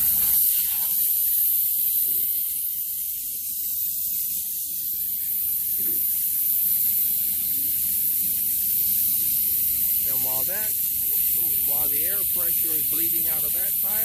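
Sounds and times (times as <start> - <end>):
air hissing out of a tire: 0.0 - 14.0.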